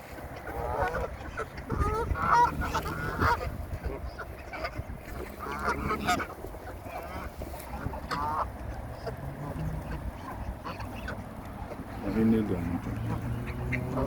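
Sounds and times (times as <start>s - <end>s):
water birds calling harshly: 0.0s - 14.0s.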